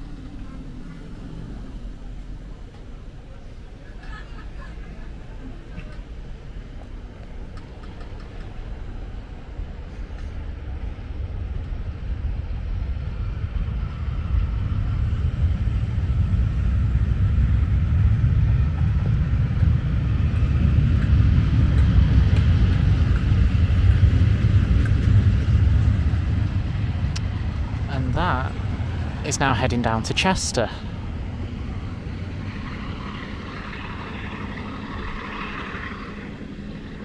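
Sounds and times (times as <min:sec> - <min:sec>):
diesel locomotive rumble: 0:00.0 - 0:37.0
train wheel and rail noise: 0:00.0 - 0:37.0.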